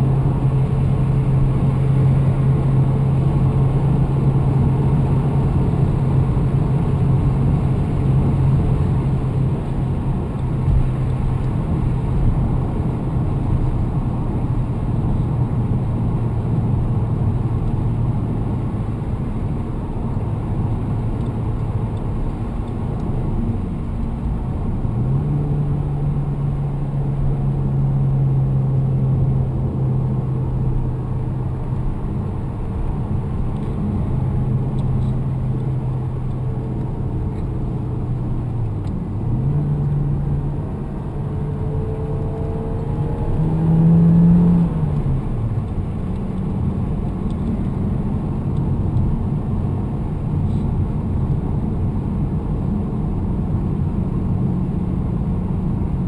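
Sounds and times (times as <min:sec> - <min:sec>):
car engine drone: 0:00.0 - 0:56.0.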